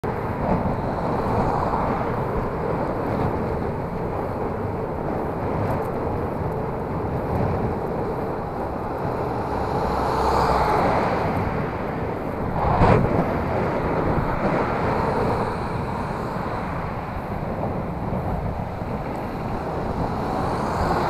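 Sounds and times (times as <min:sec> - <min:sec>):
road traffic noise: 0:00.0 - 0:21.0
wind rushing over microphone: 0:00.0 - 0:21.0.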